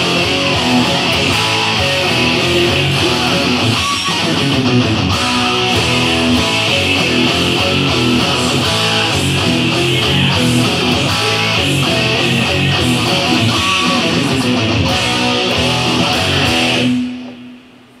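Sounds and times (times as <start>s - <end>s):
hard rock music: 0.0s - 17.6s
distorted electric guitar: 0.0s - 18.0s.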